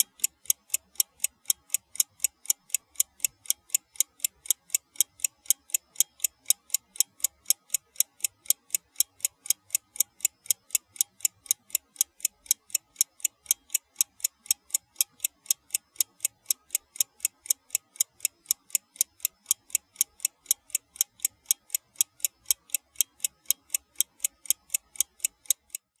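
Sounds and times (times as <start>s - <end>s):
alarm clock ticking: 0.0s - 26.0s.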